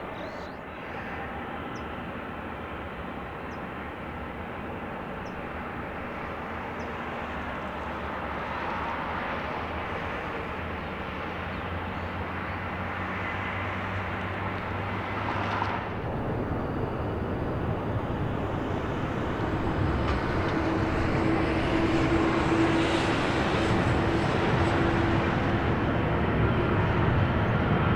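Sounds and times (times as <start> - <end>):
aircraft engine rushing: 0.0 - 27.9.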